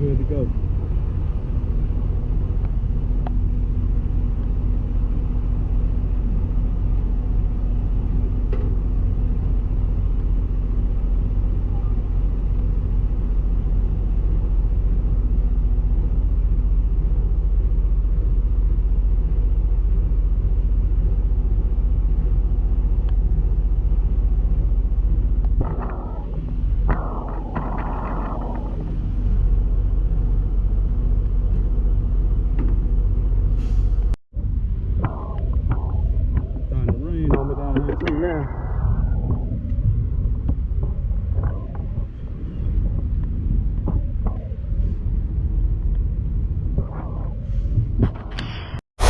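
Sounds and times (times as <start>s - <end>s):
truck diesel engine rumbling: 0.0s - 48.0s.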